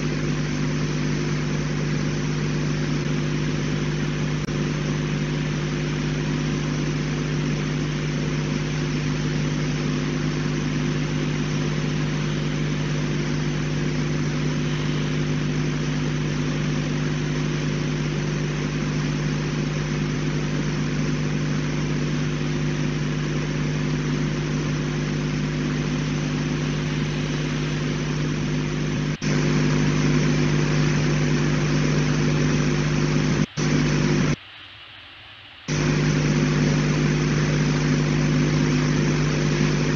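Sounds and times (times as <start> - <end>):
constant hiss: 0.0 - 39.9
electrical hum with fixed tones: 0.0 - 39.9.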